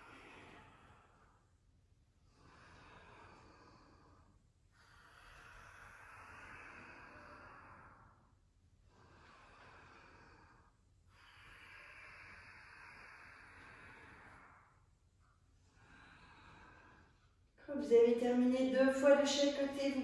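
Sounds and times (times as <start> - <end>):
faint deep breathing: 0.0 - 17.7.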